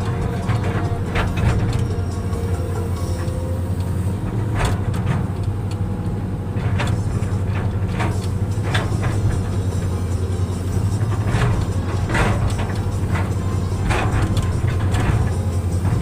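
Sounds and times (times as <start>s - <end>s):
diesel engine under load: 0.0s - 16.0s
sharp clunks and scrapes: 0.0s - 16.0s.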